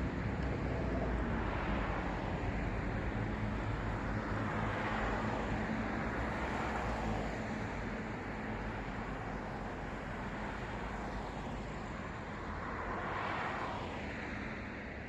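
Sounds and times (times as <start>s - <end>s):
traffic engines: 0.0s - 15.0s.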